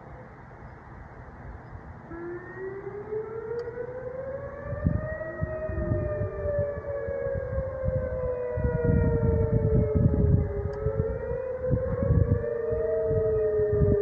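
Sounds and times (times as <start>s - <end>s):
warning sirens wailing: 0.0s - 14.0s.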